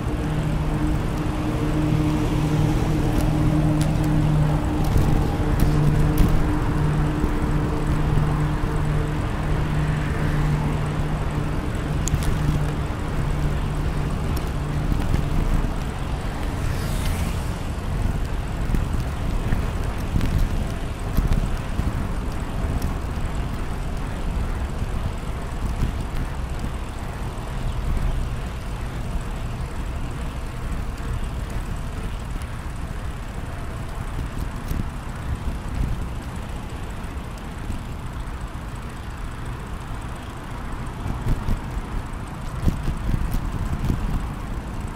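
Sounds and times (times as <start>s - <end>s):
bicycle rolling noise: 0.0s - 44.9s
steady engine hum: 0.0s - 44.9s
wind rumble: 0.0s - 44.9s.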